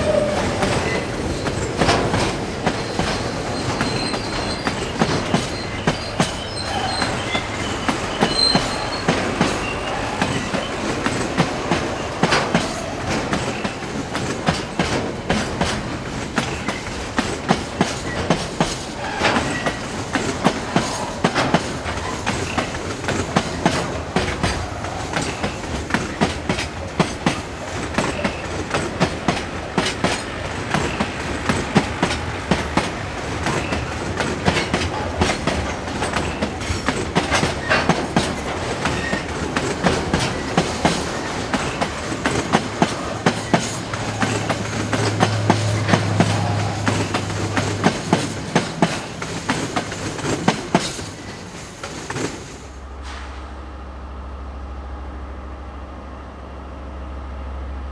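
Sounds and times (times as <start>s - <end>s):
train wheels clickety-clack: 0.0s - 53.6s.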